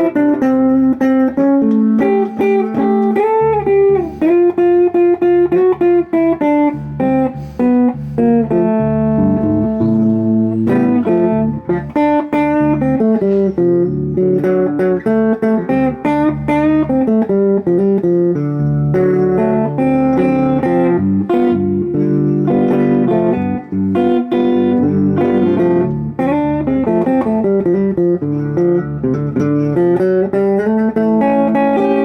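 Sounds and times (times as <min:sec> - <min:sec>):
electric guitar playing blues: 0:00.0 - 0:32.0.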